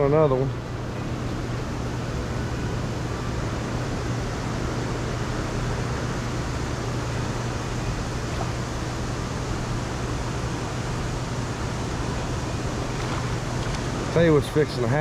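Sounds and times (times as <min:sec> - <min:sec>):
boat motor humming: 0:00.0 - 0:15.0
steady rushing noise: 0:00.0 - 0:15.0.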